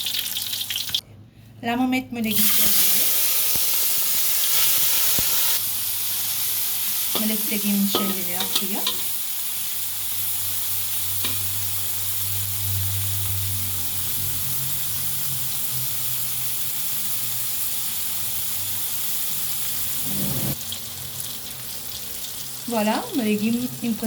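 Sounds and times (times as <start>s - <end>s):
vegetables sizzling in oil: 0.0s - 1.0s, 2.3s - 24.0s.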